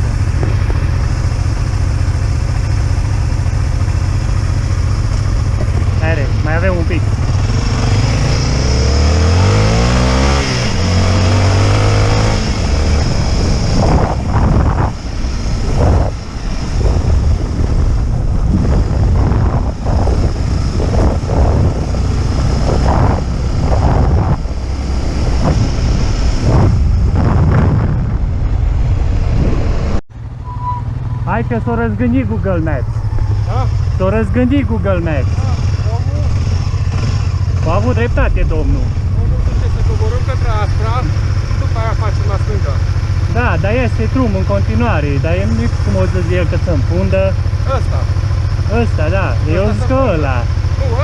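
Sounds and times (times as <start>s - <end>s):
motorcycle engine: 0.0s - 51.0s.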